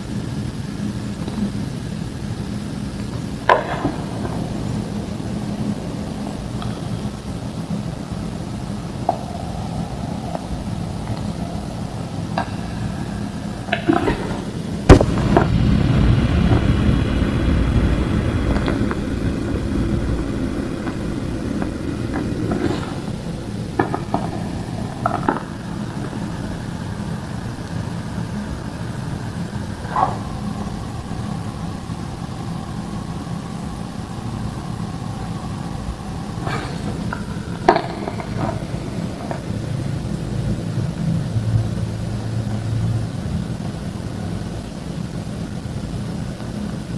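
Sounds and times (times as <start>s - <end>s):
low hum: 0.0s - 46.9s.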